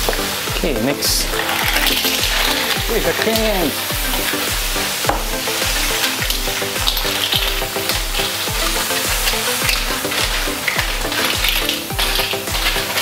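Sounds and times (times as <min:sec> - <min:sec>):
background music with a beat: 0:00.0 - 0:13.0
oil sizzling in a wok: 0:00.0 - 0:13.0.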